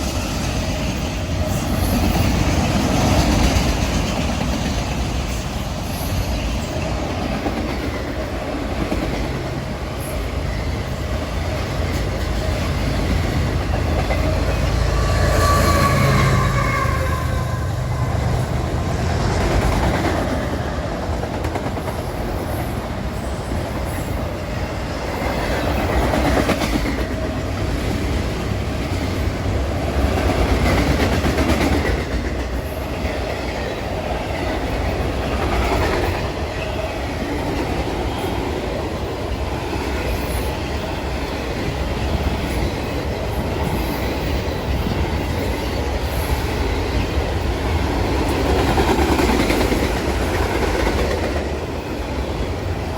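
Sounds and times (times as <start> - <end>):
train cars rolling past: 0.0 - 52.9.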